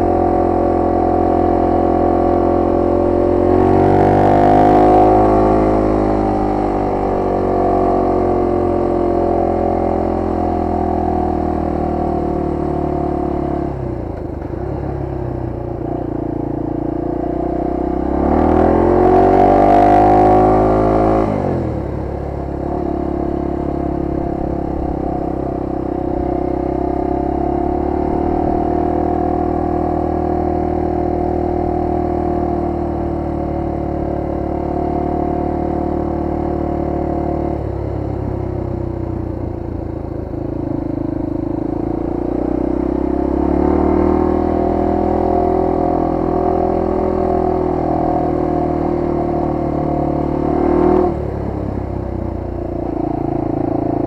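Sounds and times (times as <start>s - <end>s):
motorcycle engine running and revving: 0.0s - 54.0s.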